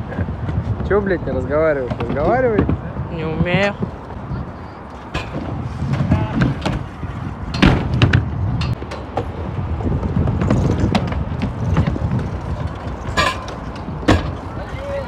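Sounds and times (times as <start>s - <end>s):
skateboard knocks and clacks: 0.0s - 4.0s, 5.0s - 14.6s
wheels rolling on concrete: 0.0s - 15.0s.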